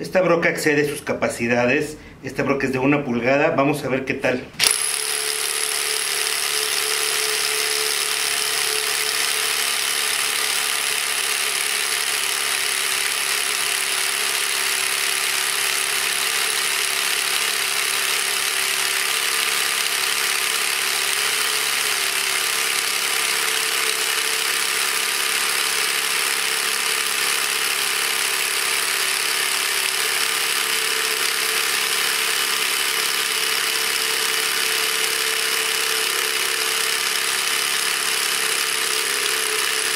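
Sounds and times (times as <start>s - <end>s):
rotary hammer drilling into concrete: 4.6s - 39.9s.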